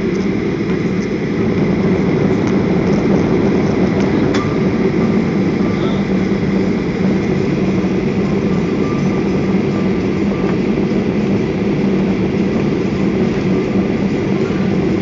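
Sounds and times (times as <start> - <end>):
aircraft wheels rolling: 0.0 - 15.0
jet engines at low power: 0.0 - 15.0
low hum: 0.0 - 15.0.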